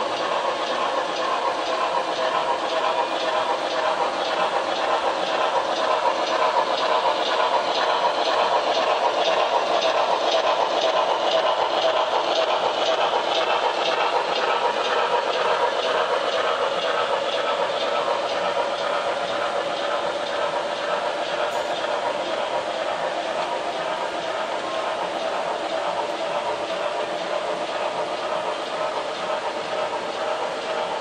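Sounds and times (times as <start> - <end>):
model train wheels rolling: 0.0 - 31.0
steam chuffing from small speaker: 0.0 - 31.0.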